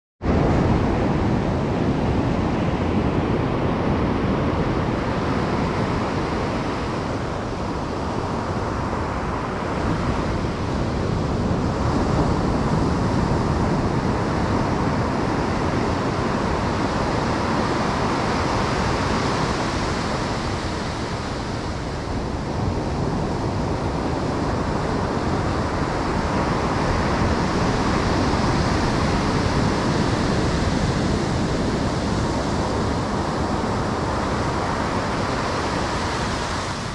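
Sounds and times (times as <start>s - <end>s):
wind on microphone: 0.2s - 36.9s
ocean surf breaking on beach: 0.3s - 36.9s.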